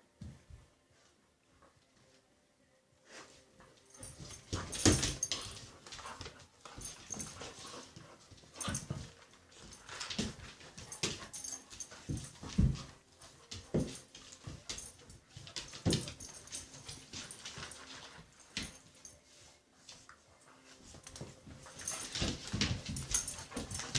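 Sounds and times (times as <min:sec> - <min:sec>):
dogs scuffling: 0:03.6 - 0:23.9.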